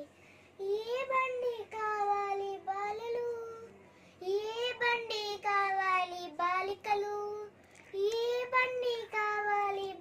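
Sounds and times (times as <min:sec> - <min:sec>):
girl singing: 0:00.0 - 0:10.0.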